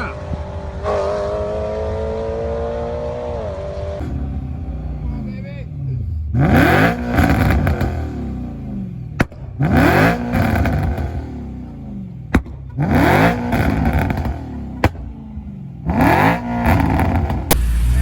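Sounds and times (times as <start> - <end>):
car engine revving: 0.0 - 18.0
exhaust crack: 0.0 - 18.0.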